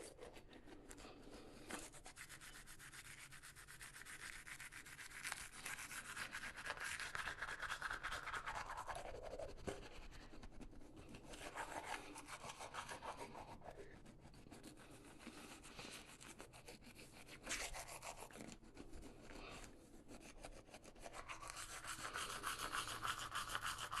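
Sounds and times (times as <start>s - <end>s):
toothbrush scrubbing teeth: 0.0s - 24.0s.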